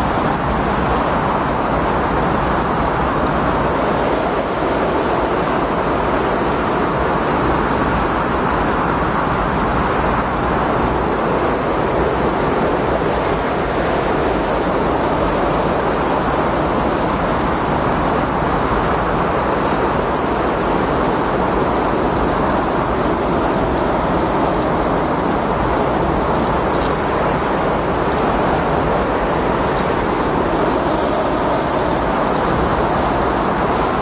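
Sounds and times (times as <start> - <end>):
steady wind rushing: 0.0 - 34.0.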